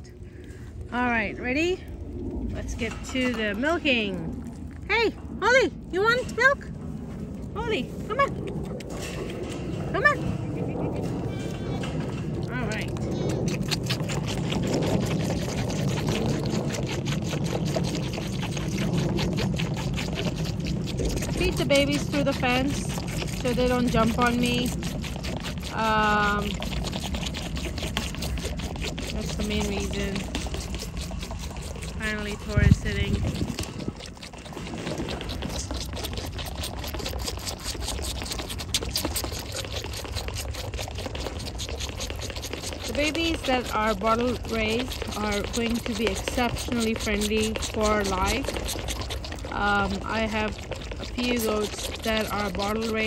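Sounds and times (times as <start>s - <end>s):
goats slurping from bottles: 0.0s - 53.0s
low rumble: 0.0s - 53.0s.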